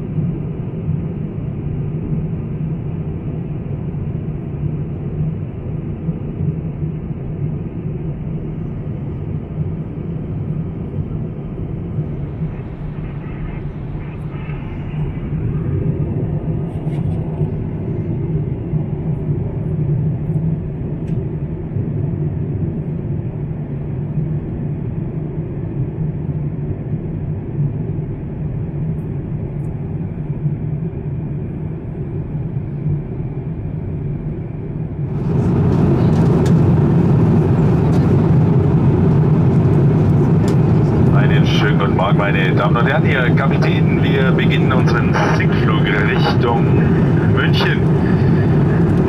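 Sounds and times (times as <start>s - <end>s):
airplane cabin rumble: 0.0s - 49.0s.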